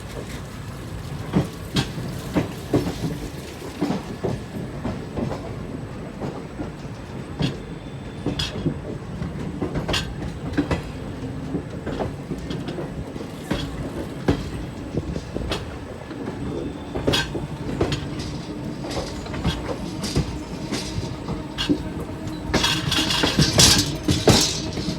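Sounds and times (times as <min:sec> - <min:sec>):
train rumbling on track: 0:00.0 - 0:24.9
wheels clacking over rail joints: 0:00.0 - 0:24.9.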